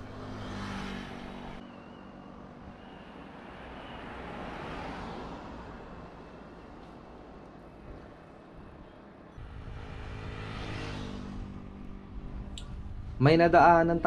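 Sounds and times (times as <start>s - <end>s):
van passing: 0.0s - 14.0s.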